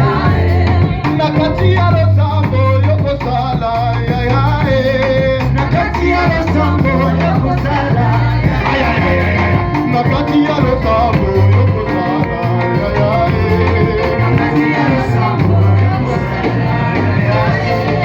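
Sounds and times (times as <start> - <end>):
upbeat praise music with singing: 0.0 - 18.0.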